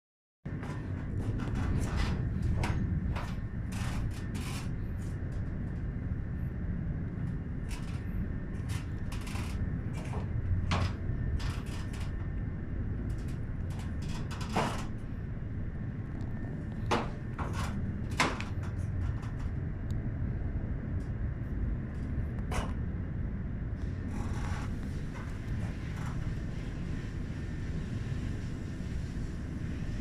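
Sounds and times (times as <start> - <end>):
steady low rumble: 0.5 - 30.0.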